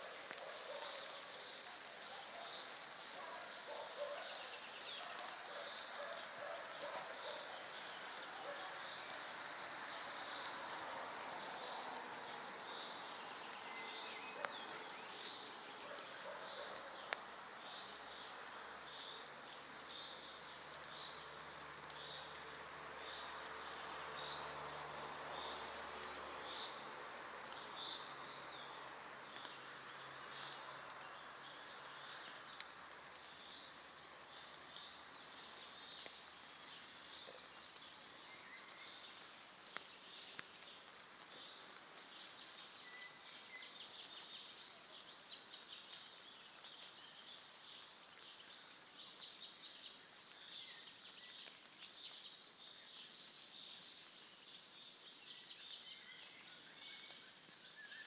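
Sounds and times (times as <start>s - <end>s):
air and leaves hissing: 0.0s - 58.0s.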